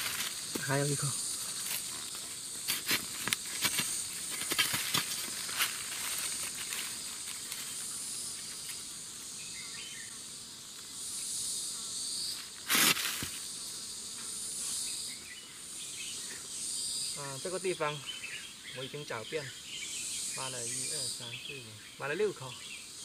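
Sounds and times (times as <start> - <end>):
insects buzzing: 0.0 - 23.0.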